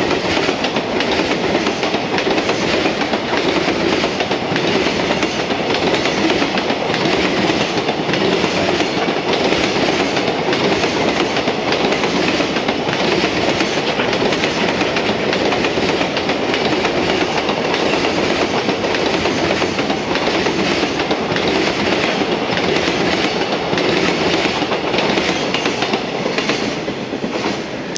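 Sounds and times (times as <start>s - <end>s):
train wheels clattering over track: 0.0s - 27.9s.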